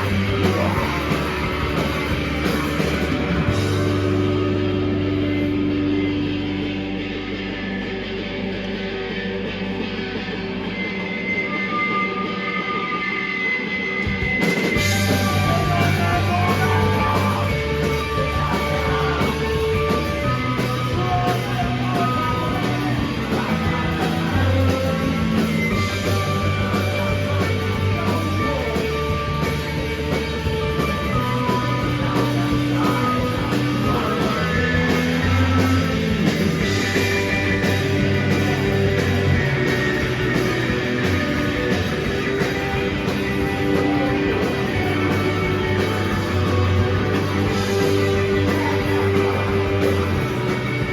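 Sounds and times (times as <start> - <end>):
drums with cymbals: 0.0 - 4.2, 14.0 - 50.9
bass guitar: 0.0 - 50.9
electric guitar: 0.0 - 50.9.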